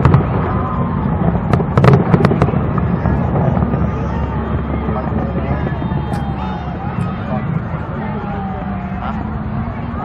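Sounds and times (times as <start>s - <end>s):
fireworks cracking: 0.0s - 9.6s
low rumble of fireworks booms: 0.0s - 10.0s.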